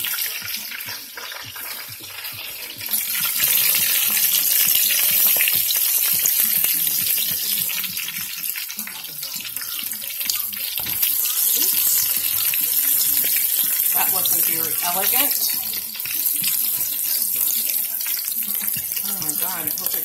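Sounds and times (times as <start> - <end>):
fish deep-frying in oil: 0.0 - 20.0.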